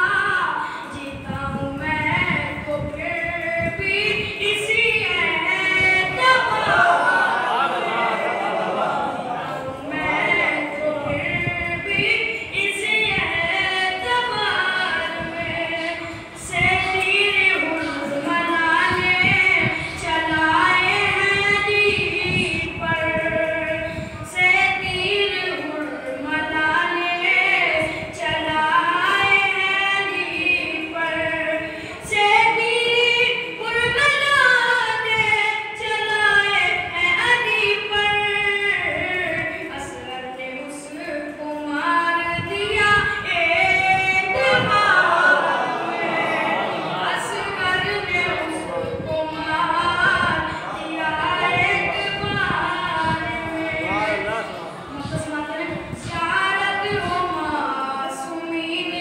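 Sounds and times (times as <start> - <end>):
boy singing into a microphone: 0.0 - 8.4, 9.4 - 59.0.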